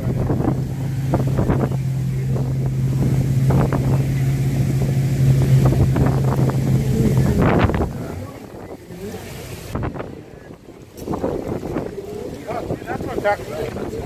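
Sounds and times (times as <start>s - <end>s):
low engine drone: 0.0s - 14.0s
wind rumbling on microphone: 0.0s - 14.0s.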